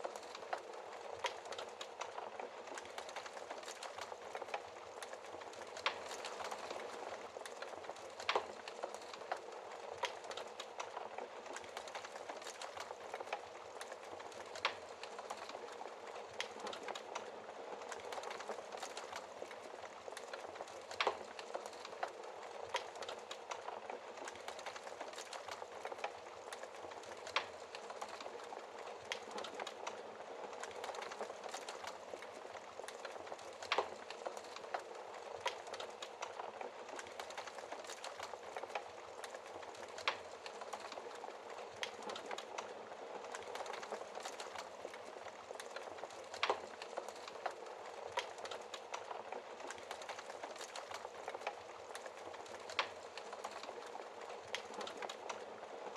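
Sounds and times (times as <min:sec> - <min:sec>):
fire hissing and crackling: 0:00.0 - 0:55.9
fire popping: 0:00.0 - 0:55.9.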